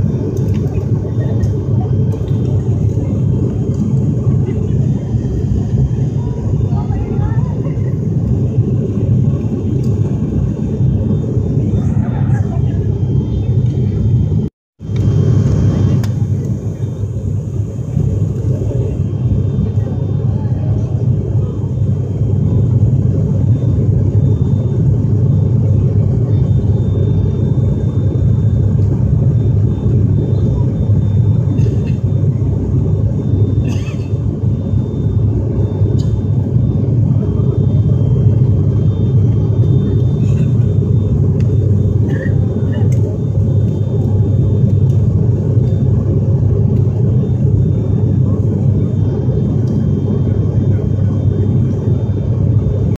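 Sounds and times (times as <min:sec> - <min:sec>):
faint high whine: 0:00.0 - 0:53.0
turboprop engine drone in cabin: 0:00.0 - 0:53.0.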